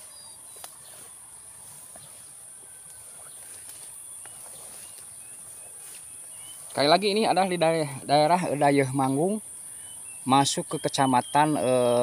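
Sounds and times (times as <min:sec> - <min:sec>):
high-pitched insects shrilling: 0:00.0 - 0:12.0.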